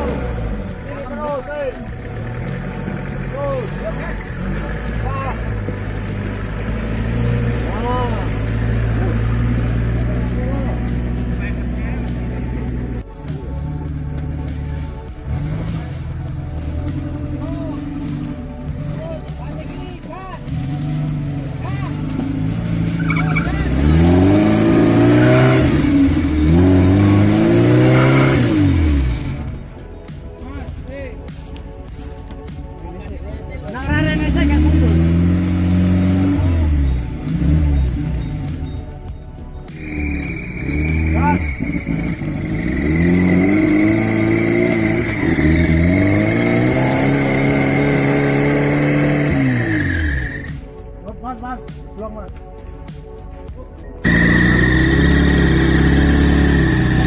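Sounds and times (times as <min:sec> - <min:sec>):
off-road vehicle engine revving: 0:00.0 - 0:29.7, 0:33.6 - 0:38.9, 0:39.7 - 0:50.7, 0:54.0 - 0:57.0.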